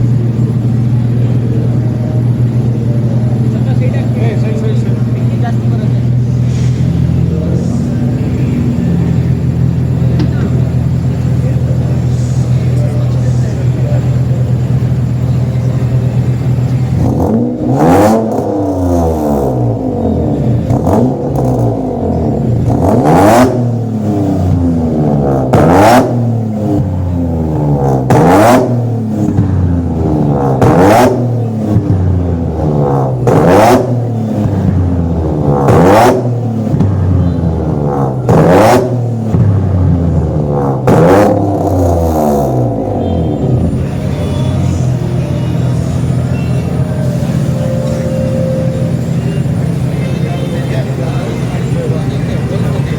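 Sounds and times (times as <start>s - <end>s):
car engine revving: 0.0s - 52.9s
exhaust bangs: 0.0s - 52.9s.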